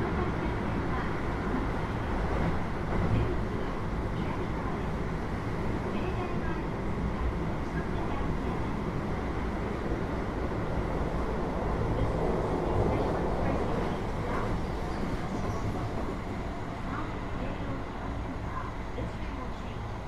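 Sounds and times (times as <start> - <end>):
train wheel and rail rumble: 0.0 - 20.0.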